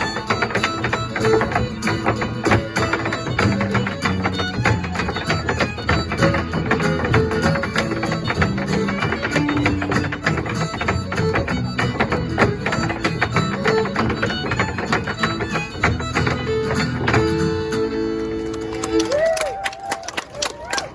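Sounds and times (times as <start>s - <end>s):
acoustic guitar strumming: 0.0s - 18.6s
fiddle melody: 0.0s - 19.1s.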